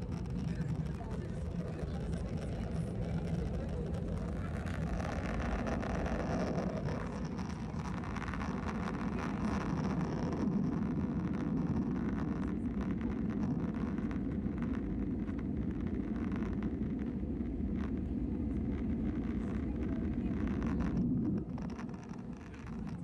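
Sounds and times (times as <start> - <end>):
airplane cabin engine rush: 0.0 - 23.0.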